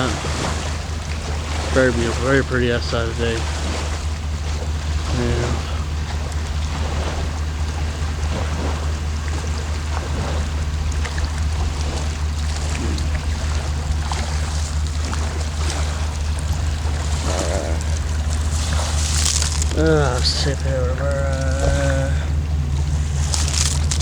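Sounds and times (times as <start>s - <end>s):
small waves lapping: 0.0s - 24.0s
wind rumble on microphone: 0.0s - 24.0s.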